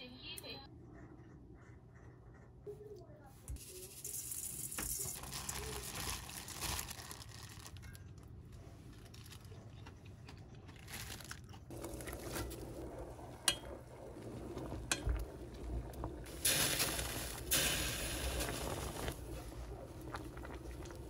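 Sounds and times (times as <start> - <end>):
crinkling handling noise: 3.6 - 21.0.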